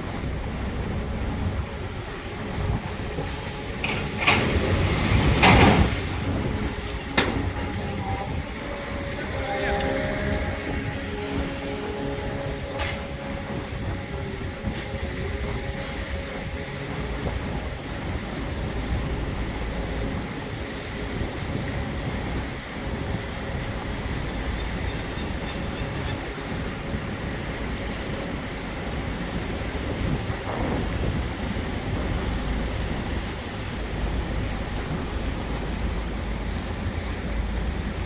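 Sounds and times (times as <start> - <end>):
motorboat engine running: 0.0 - 38.0
water noise: 0.0 - 38.0.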